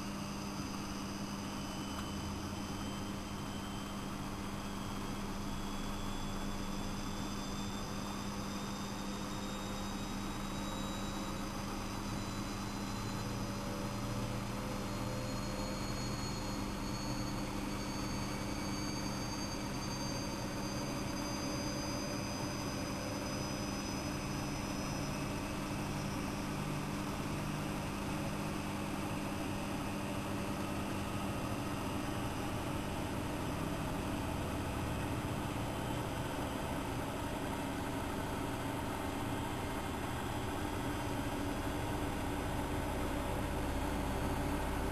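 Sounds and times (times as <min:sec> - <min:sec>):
faint high motor whine: 0:00.0 - 0:44.9
washing machine running: 0:00.0 - 0:44.9.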